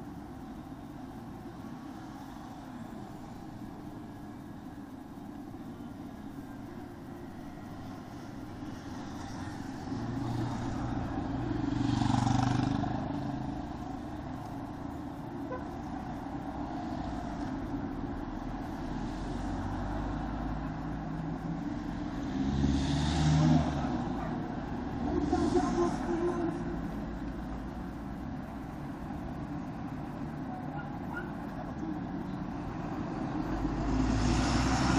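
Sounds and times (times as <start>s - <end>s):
passing vehicles: 0.0s - 34.9s.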